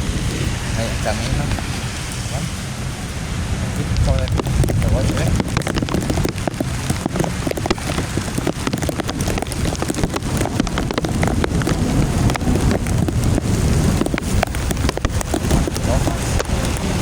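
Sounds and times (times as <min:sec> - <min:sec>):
heavy rain pelting: 0:00.0 - 0:17.0
low rumble: 0:00.0 - 0:17.0
raindrops ticking: 0:00.0 - 0:17.0.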